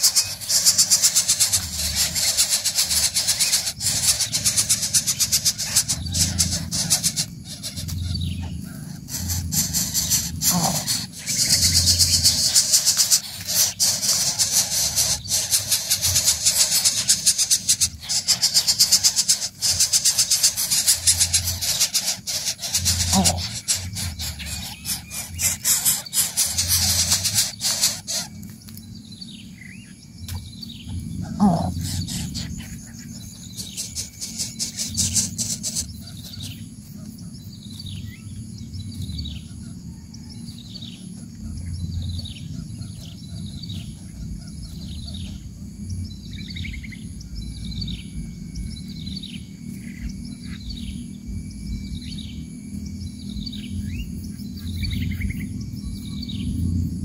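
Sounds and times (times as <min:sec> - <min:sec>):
faint insect whine: 0:00.0 - 0:57.0.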